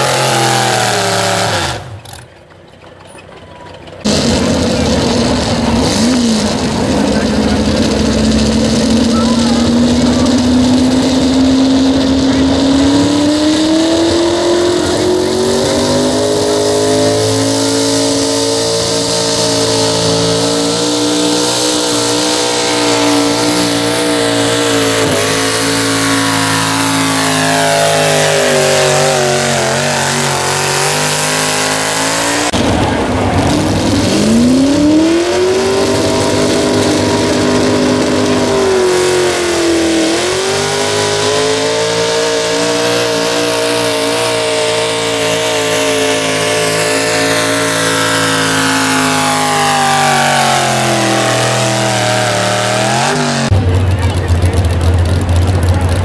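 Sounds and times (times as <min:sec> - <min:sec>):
truck engine revving at full throttle: 0:00.0 - 0:03.0, 0:03.7 - 0:56.0.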